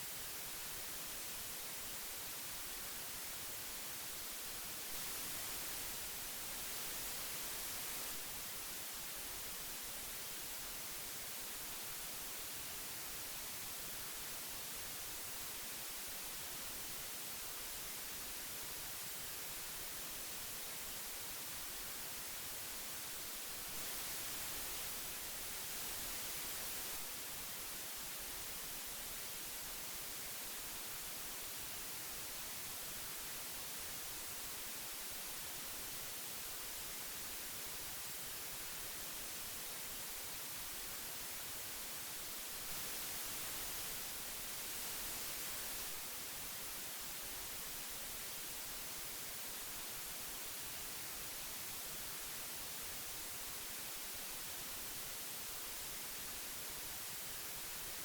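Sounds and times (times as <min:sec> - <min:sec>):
magnetic tape hiss: 0:00.0 - 0:58.0.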